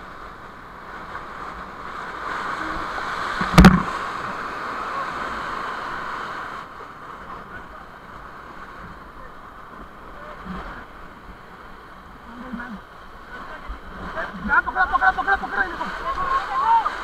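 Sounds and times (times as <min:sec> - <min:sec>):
wave slapping over raft: 0:00.0 - 0:17.0
white-water rapid rushing: 0:00.0 - 0:17.0.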